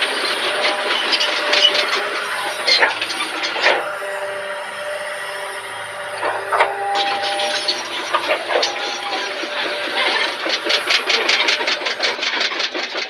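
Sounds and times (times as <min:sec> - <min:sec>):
excavator engine and hydraulics whine: 0:00.0 - 0:13.0.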